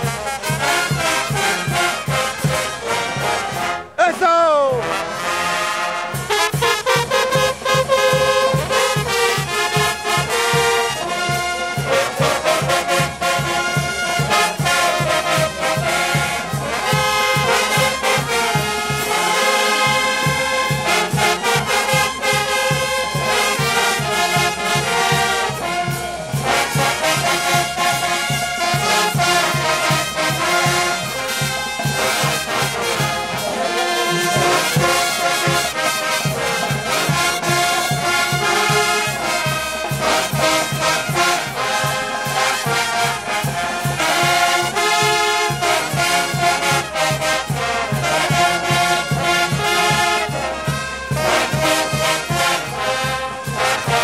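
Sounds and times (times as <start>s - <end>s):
brass band playing: 0.0s - 54.0s
drum kit beat: 0.1s - 5.2s, 6.1s - 54.0s.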